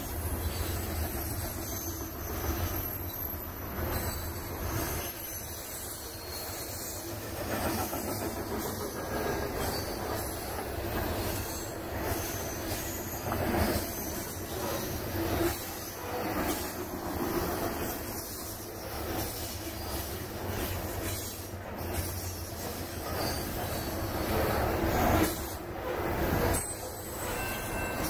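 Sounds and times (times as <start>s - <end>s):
high wheel squeal: 0.0s - 28.0s
train wheels rumbling on rail: 0.0s - 28.0s.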